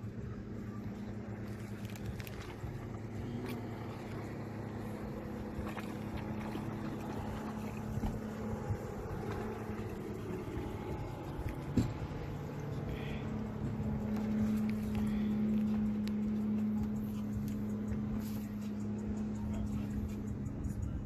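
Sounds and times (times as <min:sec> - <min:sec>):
boat motor idling: 0:00.0 - 0:21.0.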